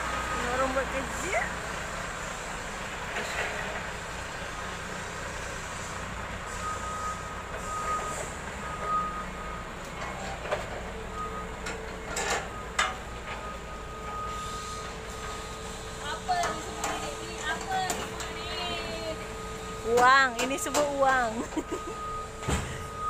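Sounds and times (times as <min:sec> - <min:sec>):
reversing alarm beeping: 0:00.0 - 0:01.6, 0:04.9 - 0:23.0
truck engine idling: 0:00.0 - 0:23.0.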